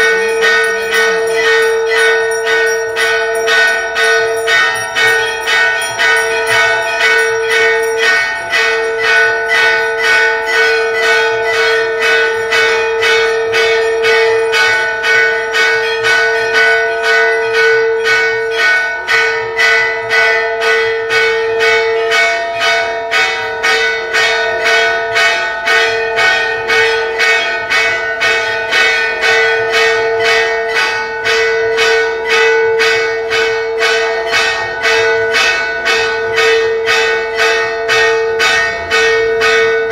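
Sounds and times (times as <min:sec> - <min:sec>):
metal bells ringing: 0:00.0 - 0:39.9.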